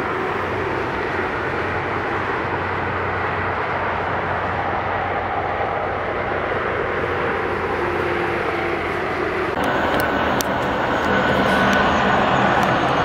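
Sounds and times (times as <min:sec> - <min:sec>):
tractor-trailer passing close: 0:00.0 - 0:13.0
truck traffic drone: 0:00.0 - 0:13.0.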